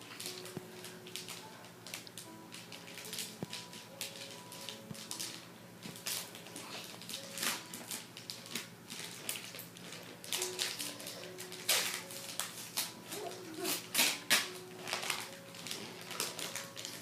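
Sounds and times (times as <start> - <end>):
wrapping paper crinkling and tearing: 0.0 - 17.0.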